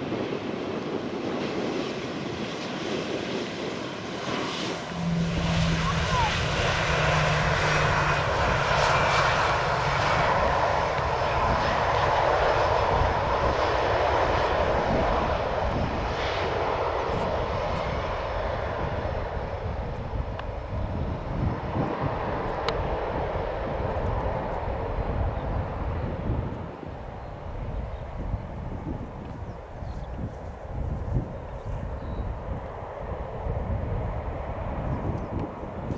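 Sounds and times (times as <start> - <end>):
jet engine roar: 0.0 - 35.9.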